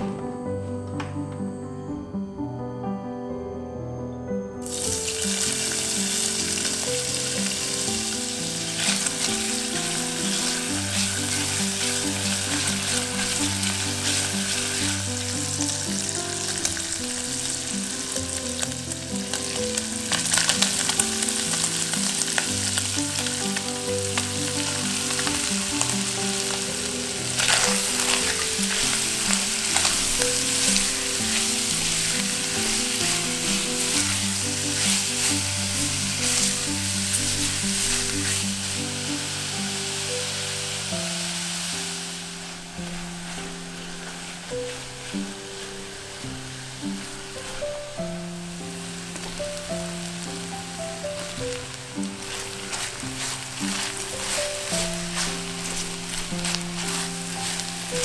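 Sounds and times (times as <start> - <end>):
food sizzling in hot oil: 4.6 - 58.0.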